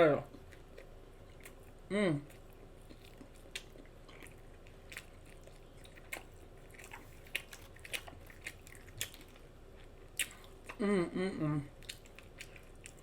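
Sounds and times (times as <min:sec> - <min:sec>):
open-mouth chewing: 0:00.3 - 0:10.8, 0:11.6 - 0:13.0.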